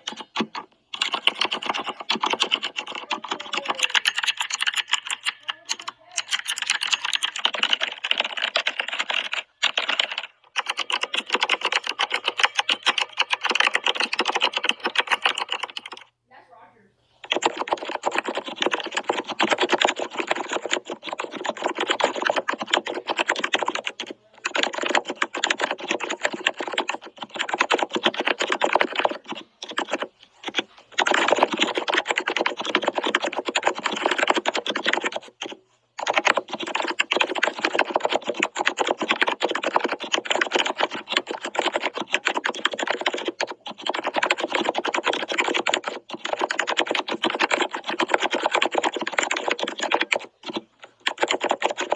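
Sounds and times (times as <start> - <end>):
fast typing on keyboard: 0.0 - 16.1, 17.2 - 51.9.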